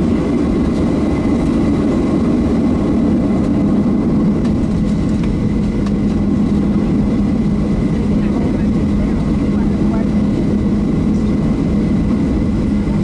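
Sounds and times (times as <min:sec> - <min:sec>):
jet engine low rumble: 0:00.0 - 0:13.0.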